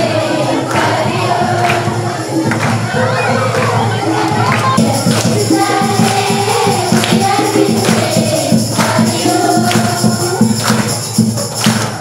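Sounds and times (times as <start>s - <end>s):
group of voices singing: 0.0s - 12.0s
music with steady beat: 0.0s - 12.0s.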